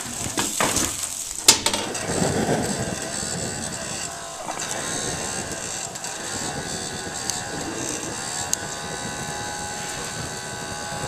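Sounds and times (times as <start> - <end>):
faint steady whine: 0.0 - 11.0
sharp crackles: 0.0 - 11.0
stove flame rushing: 0.0 - 11.0.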